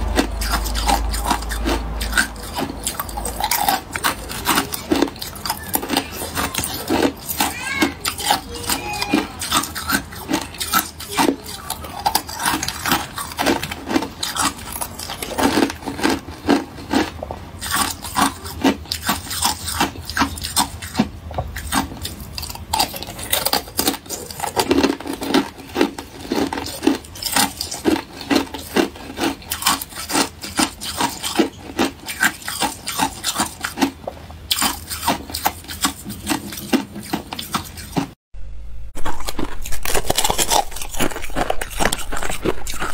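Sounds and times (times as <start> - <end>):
ice being chewed: 0.0 - 38.2, 39.0 - 42.9.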